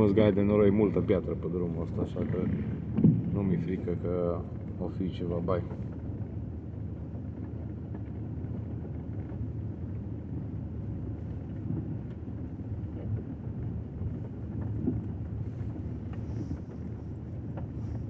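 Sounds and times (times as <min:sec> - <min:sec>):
car rumbling over dirt road: 0:00.0 - 0:18.0.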